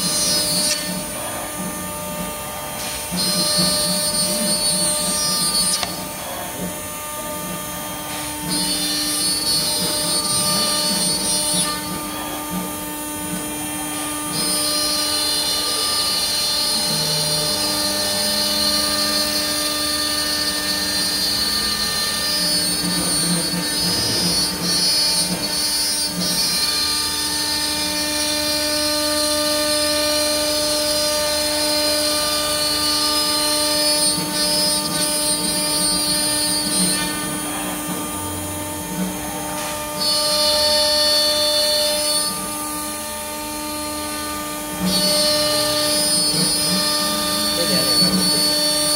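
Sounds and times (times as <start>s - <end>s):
router cutting board: 0.0s - 48.9s
router spindle whine: 0.0s - 48.9s.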